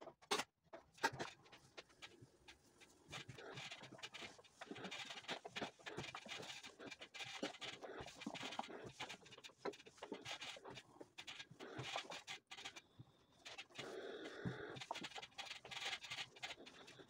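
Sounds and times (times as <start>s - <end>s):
light scrapes and clicks: 0.2s - 17.0s.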